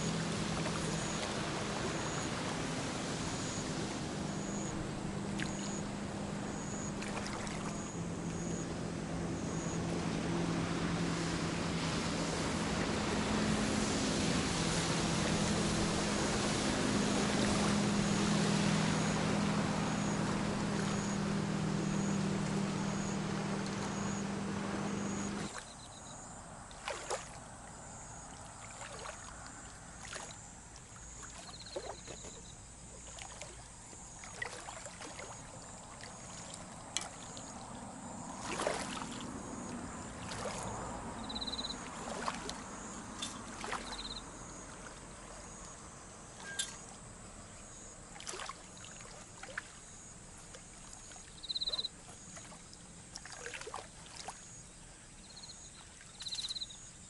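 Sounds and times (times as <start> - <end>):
insects chirping: 0.0 - 11.4, 14.7 - 57.0.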